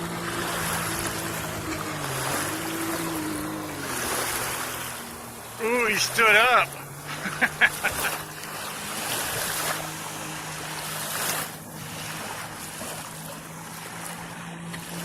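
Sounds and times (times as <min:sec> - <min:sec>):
jet ski engine running: 0:00.0 - 0:15.0
water rushing: 0:00.0 - 0:15.0.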